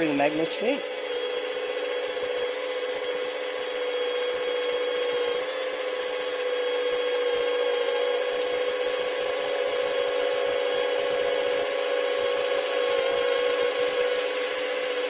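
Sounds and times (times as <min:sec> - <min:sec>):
electric drill running at low speed: 0:00.0 - 0:15.0.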